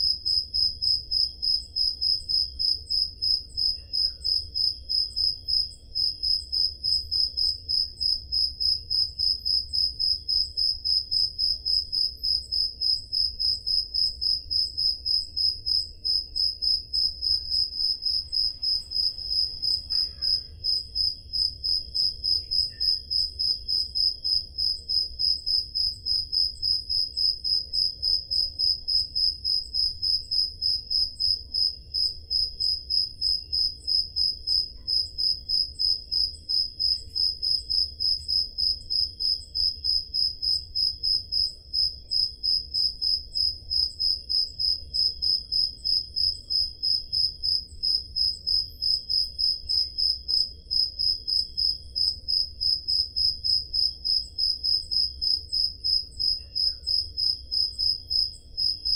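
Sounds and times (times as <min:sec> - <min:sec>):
crickets chirping: 0:00.0 - 0:58.9
faint low hum: 0:00.0 - 0:58.9.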